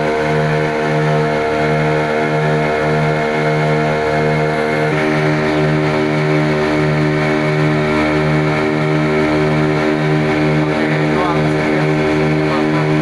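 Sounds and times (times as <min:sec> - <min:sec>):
boat engines droning: 0:00.0 - 0:13.0.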